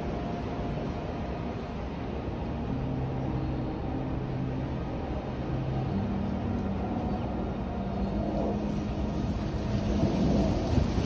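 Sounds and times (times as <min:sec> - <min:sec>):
steady low hum: 0:00.0 - 0:11.0
wind buffeting microphone: 0:00.0 - 0:11.0.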